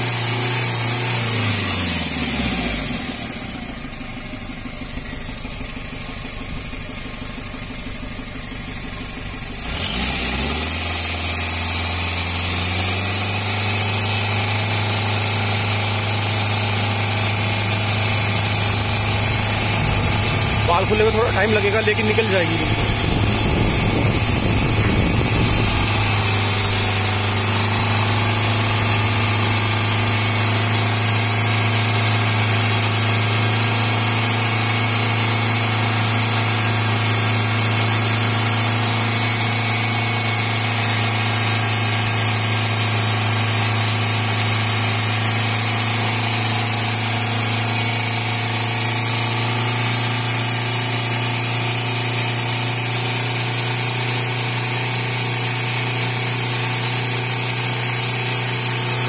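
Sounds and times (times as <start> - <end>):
car engine idling: 0.1 - 59.0.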